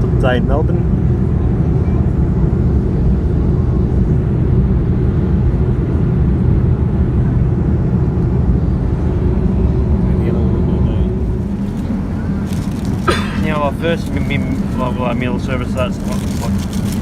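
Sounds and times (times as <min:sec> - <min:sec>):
airliner engines and airflow rumble: 0:00.0 - 0:17.0.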